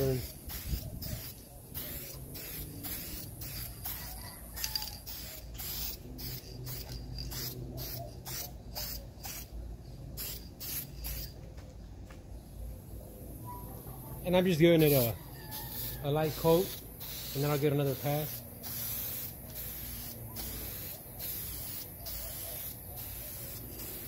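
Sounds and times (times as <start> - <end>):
spray paint can hissing: 0.0 - 11.4, 14.8 - 24.0.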